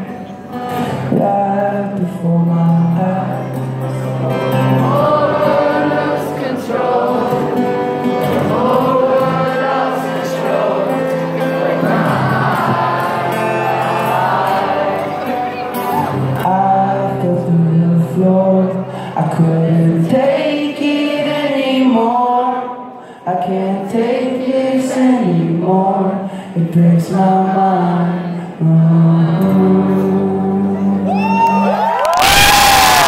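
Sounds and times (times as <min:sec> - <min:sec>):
acoustic guitar strumming chords: 0:00.0 - 0:22.8, 0:24.8 - 0:31.1
crowd singing along: 0:00.0 - 0:31.8.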